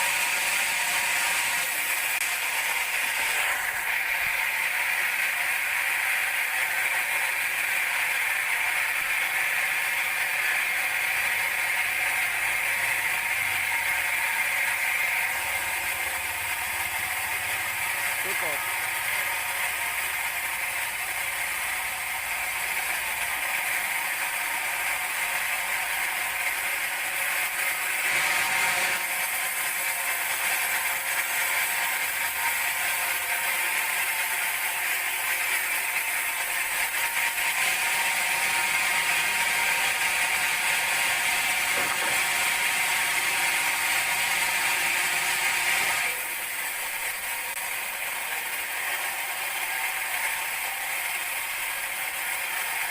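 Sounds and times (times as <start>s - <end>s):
band saw cutting log: 0.0s - 52.9s.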